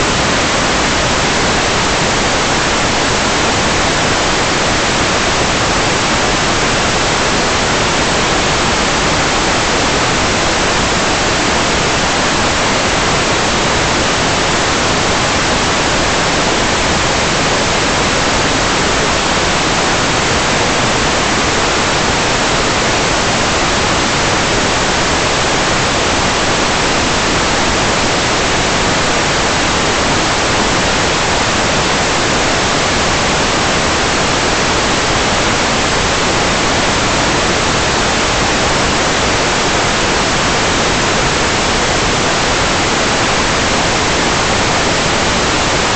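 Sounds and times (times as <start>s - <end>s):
static hiss: 0.0s - 45.9s.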